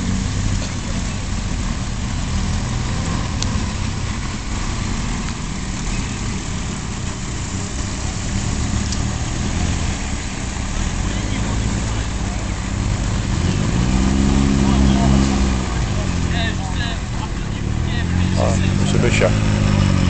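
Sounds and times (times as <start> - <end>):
car engines driving slowly past: 0.0 - 20.0.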